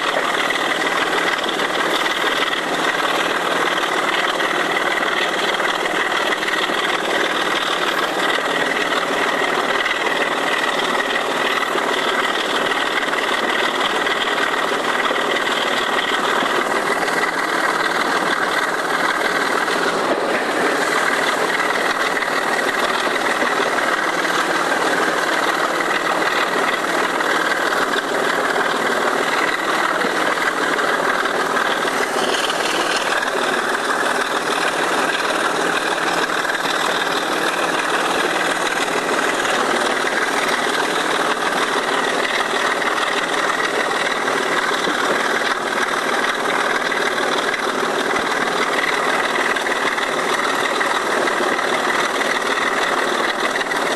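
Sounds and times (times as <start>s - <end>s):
locomotive diesel engine droning: 0.0s - 53.9s.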